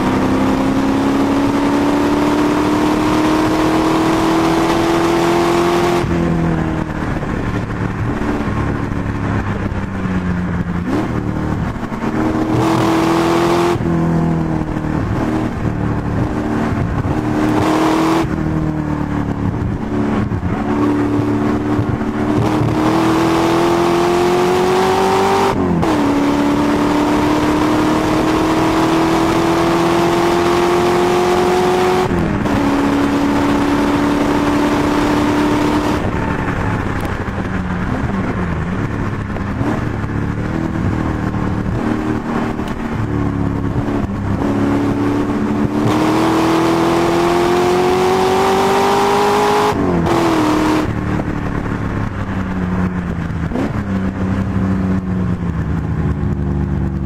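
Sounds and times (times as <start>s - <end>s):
race car engine accelerating: 0.0s - 9.5s, 10.8s - 52.4s.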